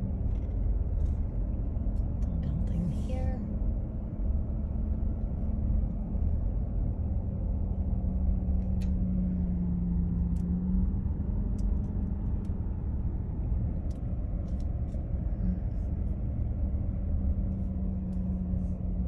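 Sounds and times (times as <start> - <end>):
constant hum: 0.0 - 19.0
engine and tyre rumble: 0.0 - 19.0.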